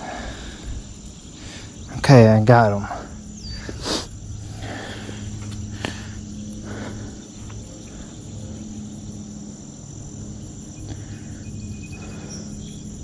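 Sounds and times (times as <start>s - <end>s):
crickets and insects chirring: 0.0s - 13.0s
low steady rumble: 0.0s - 13.0s.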